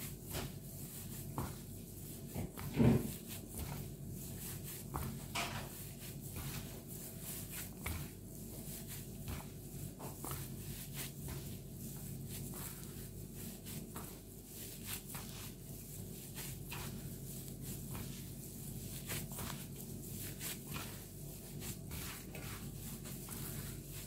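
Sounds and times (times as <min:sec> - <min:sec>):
plastic glove rustles: 0:00.0 - 0:24.0
soft squishes of mashed potato: 0:00.0 - 0:24.0.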